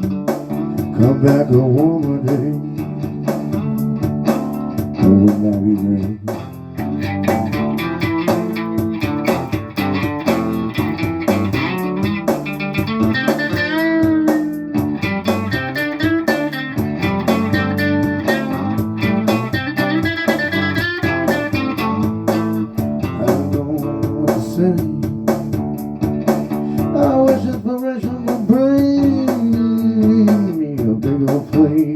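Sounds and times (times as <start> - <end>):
electric guitar lead: 0.0 - 27.4
bass guitar: 0.0 - 31.9
drums keeping a beat: 0.0 - 31.9.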